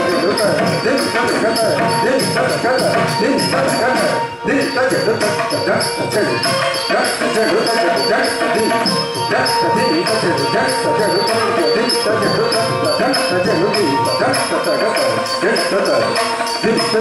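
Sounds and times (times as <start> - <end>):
metallic jingling beat: 0.0 - 17.0
person singing: 0.0 - 17.0.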